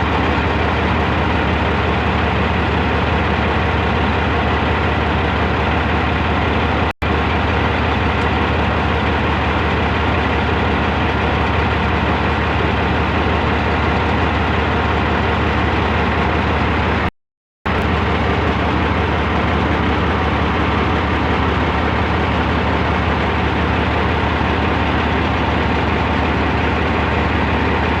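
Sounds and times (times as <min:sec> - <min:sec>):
heavy diesel engine droning: 0:00.0 - 0:17.1, 0:17.7 - 0:28.0.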